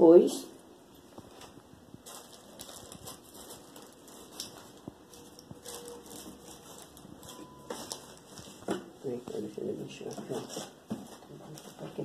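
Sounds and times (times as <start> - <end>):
handling scratches and rustles: 1.0 - 12.0.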